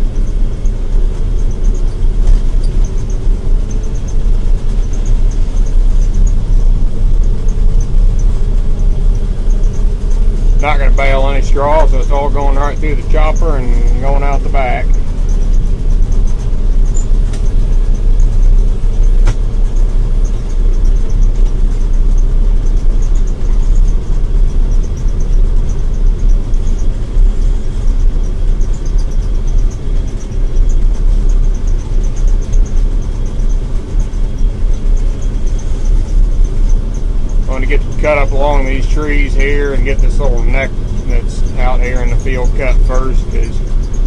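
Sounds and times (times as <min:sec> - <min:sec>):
combine harvester droning: 0:00.0 - 0:44.0.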